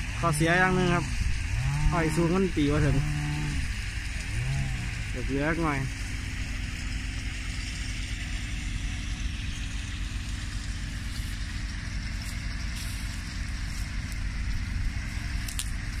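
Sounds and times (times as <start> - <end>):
engine rumbling steadily: 0.0 - 16.0.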